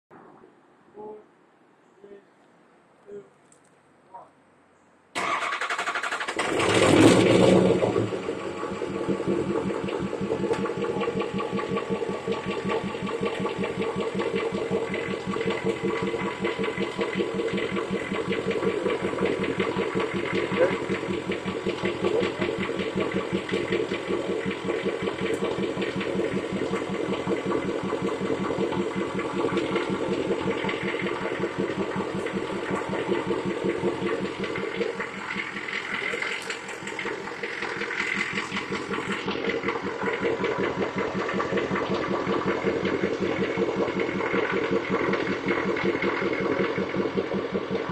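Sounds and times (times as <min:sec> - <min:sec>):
diesel engine idling with clatter: 0:05.2 - 0:47.9.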